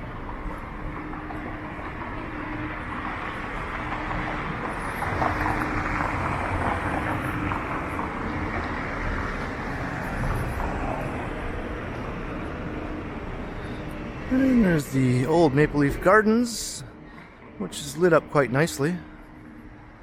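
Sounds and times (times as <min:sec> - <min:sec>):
steady traffic hum: 0:00.0 - 0:20.0.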